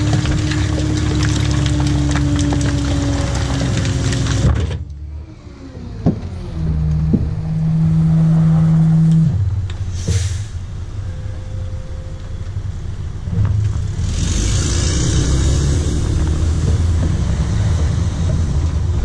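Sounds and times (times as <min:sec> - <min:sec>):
garbage truck engine and hydraulics: 0:00.0 - 0:19.0.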